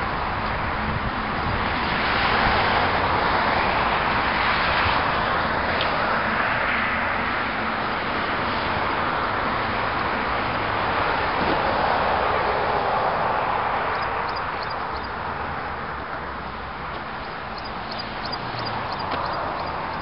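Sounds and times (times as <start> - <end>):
road traffic hiss: 0.0 - 20.0.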